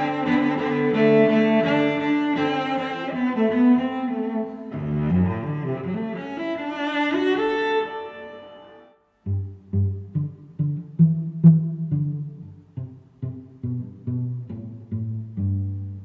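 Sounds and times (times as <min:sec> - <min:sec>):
low bowed strings music: 0:00.0 - 0:16.0.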